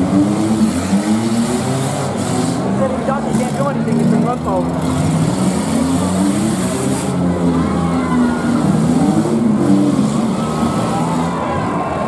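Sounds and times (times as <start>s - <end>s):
car engines revving: 0.0s - 12.0s
high engine whines: 0.0s - 12.0s.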